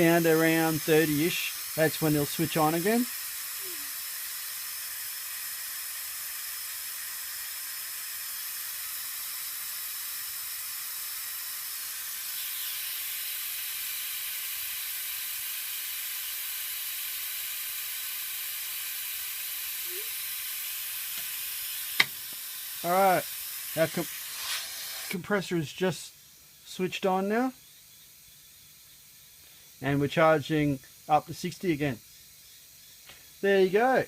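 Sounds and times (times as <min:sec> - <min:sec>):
compressed air hissing: 0:00.0 - 0:34.0.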